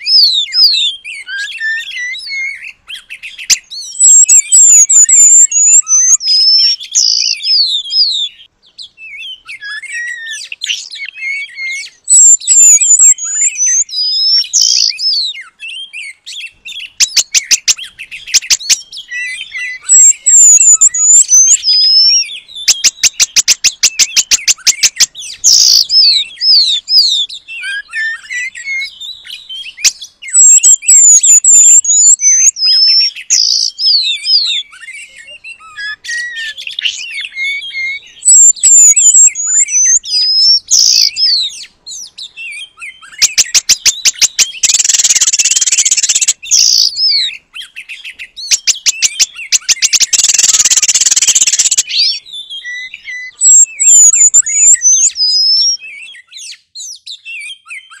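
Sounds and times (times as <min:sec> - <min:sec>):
bird whistling and chipping: 0:00.0 - 0:58.0.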